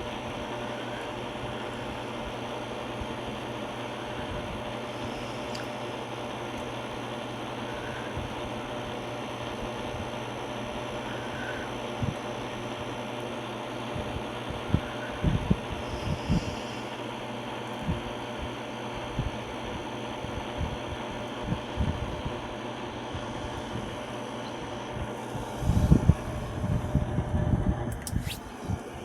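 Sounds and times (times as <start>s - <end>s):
ceiling fan humming: 0.0s - 29.0s.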